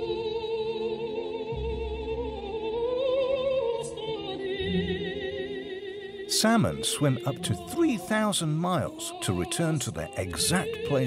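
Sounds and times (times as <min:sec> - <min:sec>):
operatic singing: 0:00.0 - 0:11.0.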